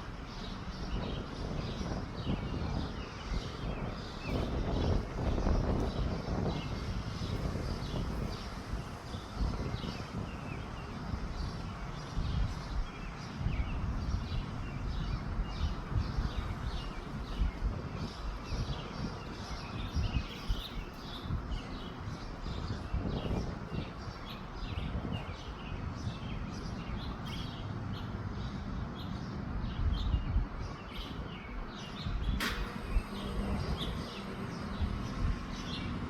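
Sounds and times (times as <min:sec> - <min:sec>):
small birds chirping: 0:00.0 - 0:36.0
wind buffeting microphone: 0:00.0 - 0:36.0.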